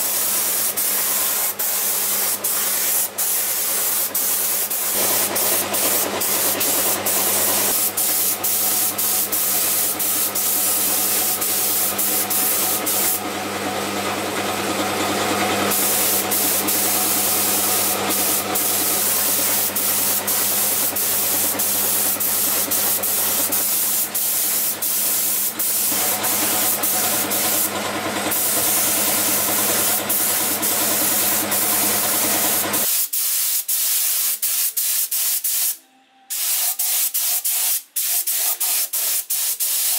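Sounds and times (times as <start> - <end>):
paint spray gun hissing: 0.0 - 13.2, 15.7 - 39.9.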